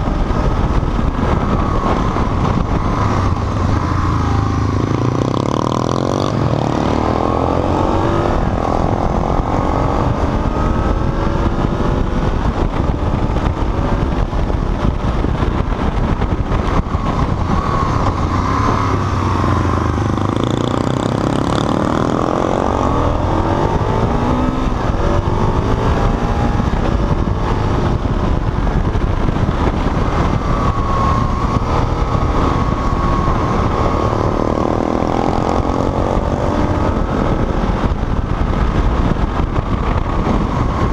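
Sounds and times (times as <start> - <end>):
motorcycle engine accelerating: 0.0 - 40.9
wind rush: 0.0 - 40.9.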